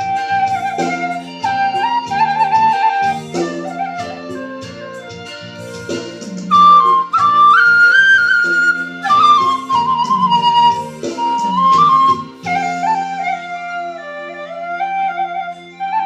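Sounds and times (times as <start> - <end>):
bamboo flute melody: 0.0 - 16.0.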